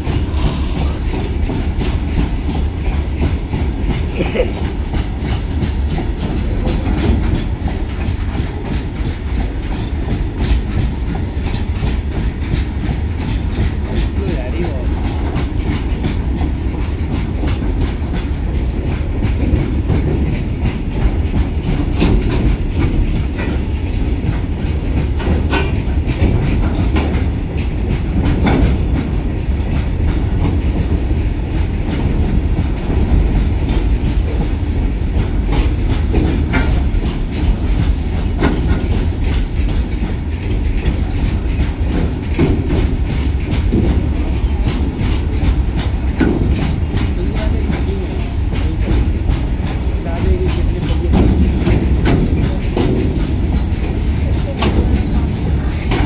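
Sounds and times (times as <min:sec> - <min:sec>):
steel wheels rumbling: 0:00.0 - 0:56.0
wheels clicking over rail joints: 0:00.0 - 0:56.0.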